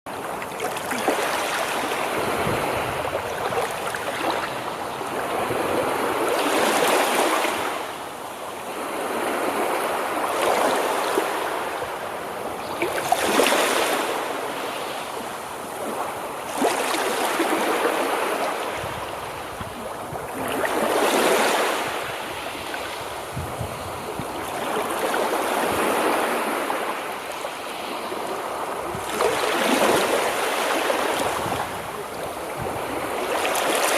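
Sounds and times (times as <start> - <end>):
sea waves breaking: 0.1 - 33.9.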